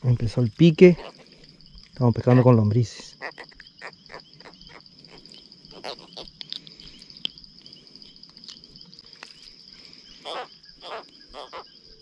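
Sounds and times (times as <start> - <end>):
insects trilling: 0.0 - 12.0
pulsing insect chirp: 0.0 - 12.0.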